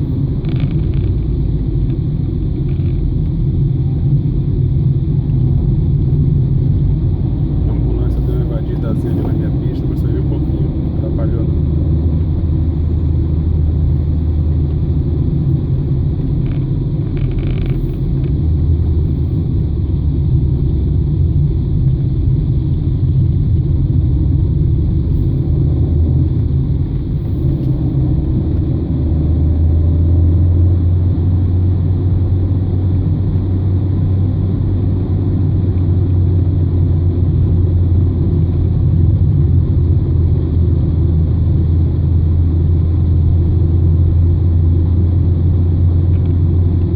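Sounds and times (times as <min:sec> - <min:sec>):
car engine and road noise drone: 0:00.0 - 0:46.9.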